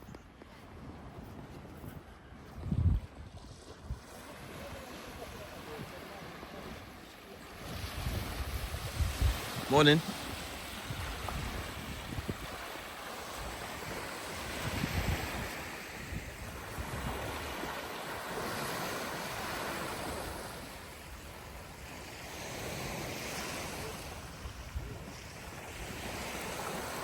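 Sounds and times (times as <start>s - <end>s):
wind rumble on microphone: 0.0s - 27.0s
sea waves washing onto beach: 0.4s - 27.0s.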